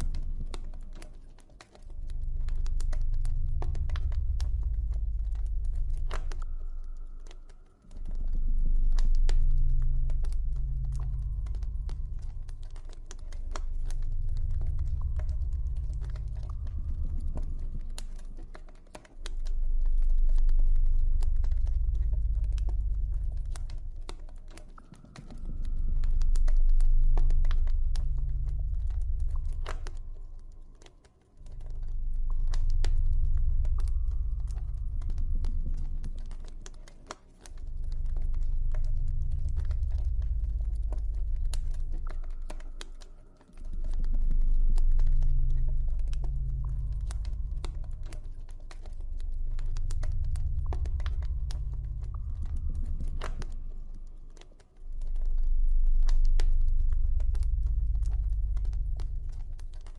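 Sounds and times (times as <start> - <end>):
deep low drone: 0.0 - 59.9.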